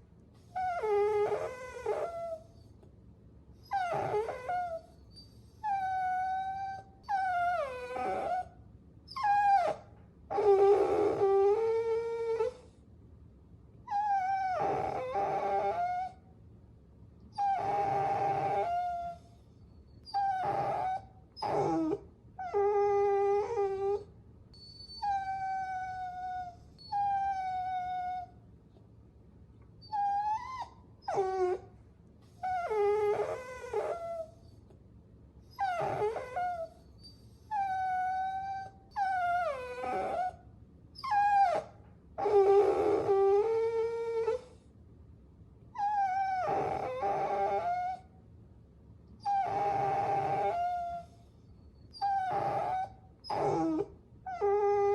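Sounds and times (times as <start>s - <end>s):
puppy whining: 0.4s - 2.9s, 3.6s - 12.8s, 13.8s - 16.3s, 17.3s - 28.5s, 29.6s - 34.8s, 35.4s - 44.7s, 45.7s - 48.2s, 49.2s - 54.9s.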